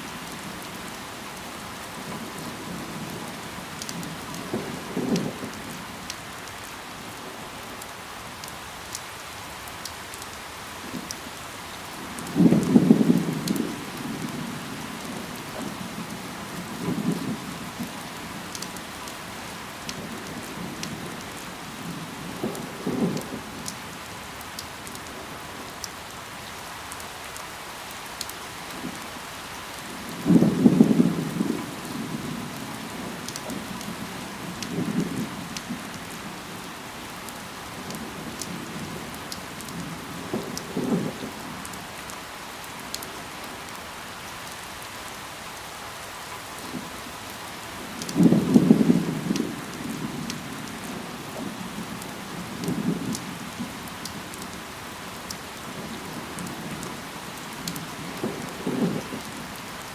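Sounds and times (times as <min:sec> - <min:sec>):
steady rain: 0:00.0 - 0:59.9
raindrops ticking: 0:01.4 - 0:43.8, 0:46.0 - 0:59.9.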